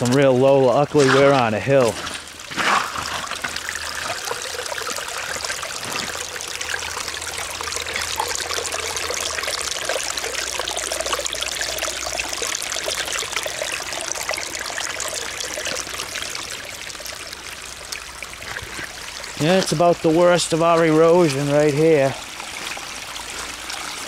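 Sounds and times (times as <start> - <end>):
water trickling over rocks: 0.0 - 24.0.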